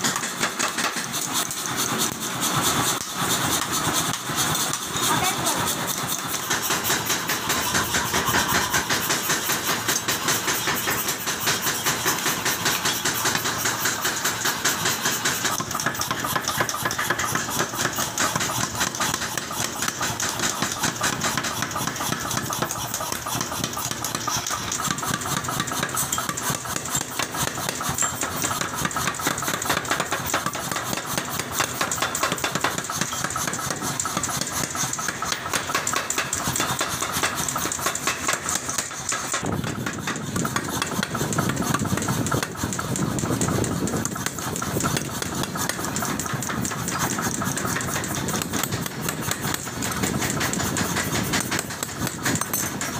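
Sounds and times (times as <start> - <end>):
hammer motor running: 0.0 - 52.9
power hammer pounding steel: 0.0 - 52.9.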